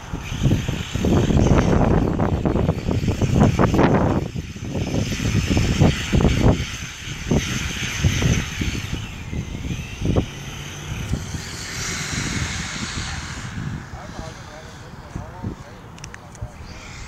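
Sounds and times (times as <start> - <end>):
toy truck motor whining: 0.0 - 17.0
wind buffeting microphone: 0.0 - 17.0.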